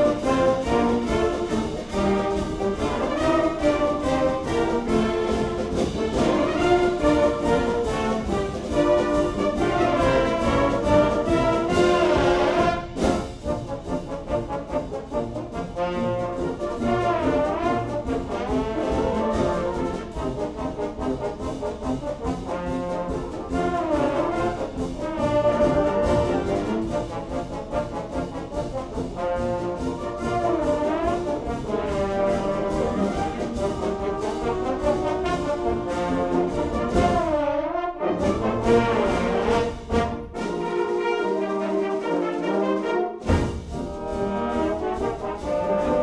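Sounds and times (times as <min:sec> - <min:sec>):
brass fanfare band: 0:00.0 - 0:46.0
trombone quartet: 0:00.0 - 0:46.0
trombone slide glissandi: 0:00.0 - 0:46.0.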